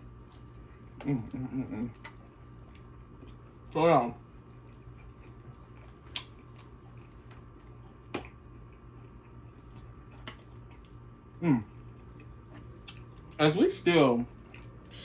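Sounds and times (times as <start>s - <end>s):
person chewing with wet smacking: 0.0s - 13.5s, 14.2s - 15.0s.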